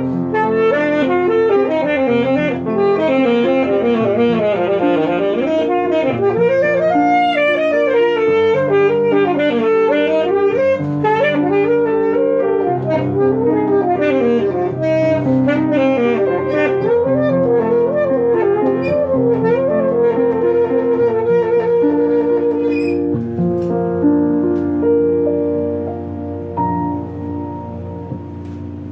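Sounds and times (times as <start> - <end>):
alto saxophone melody: 0.0 - 28.9
grand piano accompaniment: 0.0 - 28.9.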